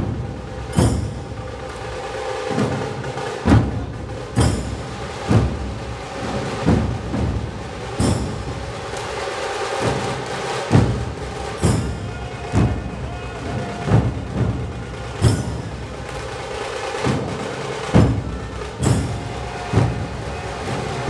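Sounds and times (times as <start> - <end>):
deep dhol drum beats: 0.0 - 21.0
dense drum rattle: 2.5 - 8.9, 9.8 - 21.0.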